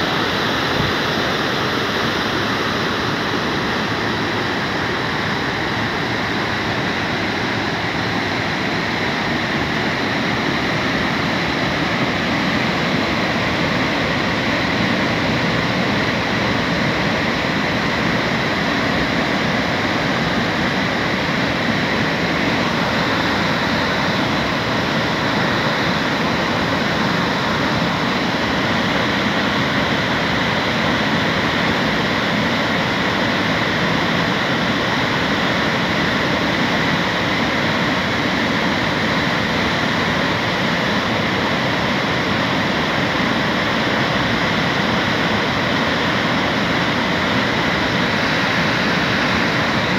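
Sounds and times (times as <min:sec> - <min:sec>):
water rushing over boulders: 0:00.0 - 0:49.9.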